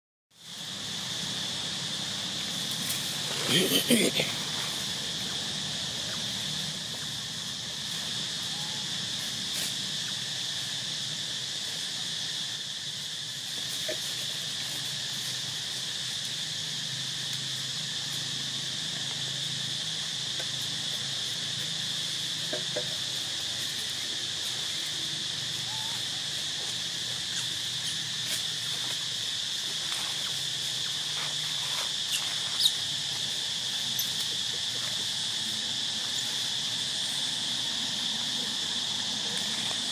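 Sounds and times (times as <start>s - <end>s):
insects droning: 0.3s - 39.9s.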